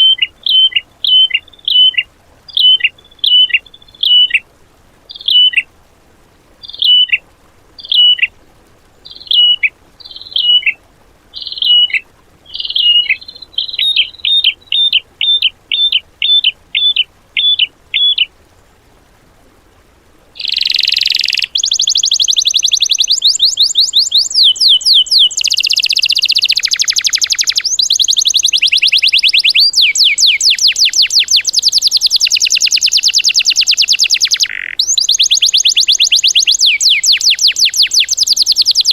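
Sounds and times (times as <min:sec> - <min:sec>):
rapid-fire birdsong: 0:00.0 - 0:04.4, 0:05.1 - 0:05.7, 0:06.6 - 0:07.2, 0:07.8 - 0:08.3, 0:09.0 - 0:18.3, 0:20.4 - 0:38.9.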